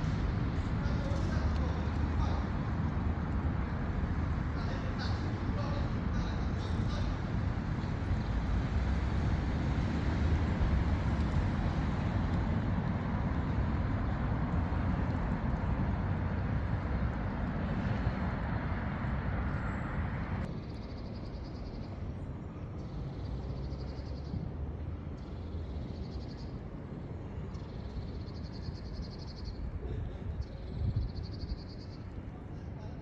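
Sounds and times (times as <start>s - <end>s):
steady rush of noise: 0.0s - 33.0s.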